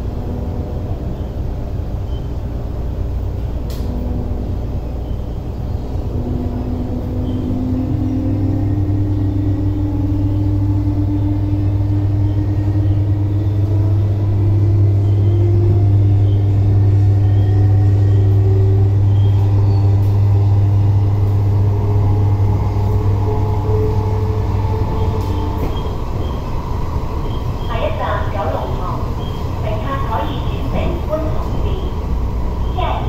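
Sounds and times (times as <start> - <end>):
electric train motor hum: 0.0 - 33.0
faint rising whine: 4.0 - 31.0.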